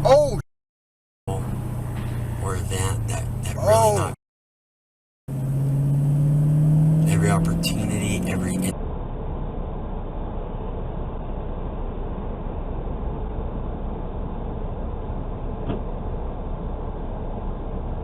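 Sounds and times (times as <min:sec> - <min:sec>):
car driving rumble: 0:01.3 - 0:04.2, 0:05.3 - 0:18.0.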